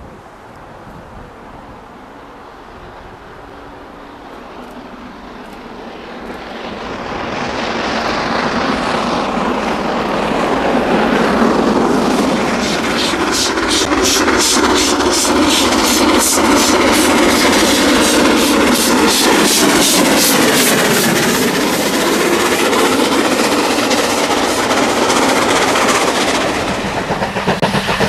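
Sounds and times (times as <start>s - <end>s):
steam locomotive hauling train: 0.0s - 28.0s.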